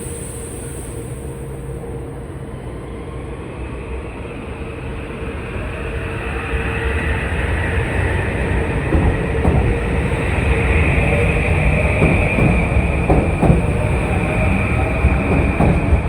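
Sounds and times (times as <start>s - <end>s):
train rumble and rail noise: 0.0s - 16.0s.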